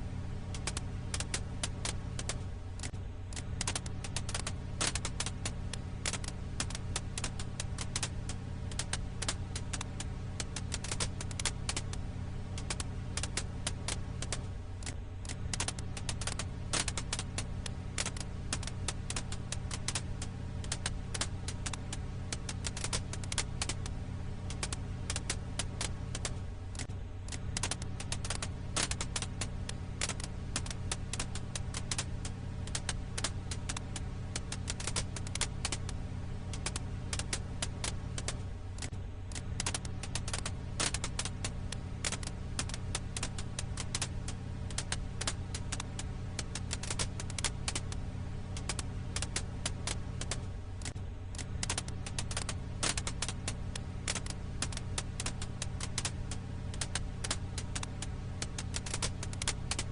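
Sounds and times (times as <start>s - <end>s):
low rumble: 0.0s - 59.9s
wood fire crackling: 0.0s - 59.9s.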